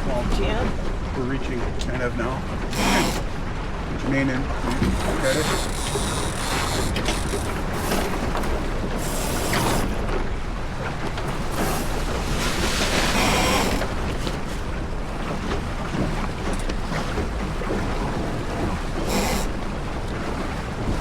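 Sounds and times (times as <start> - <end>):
water noise: 0.0 - 21.0
wind: 0.0 - 21.0.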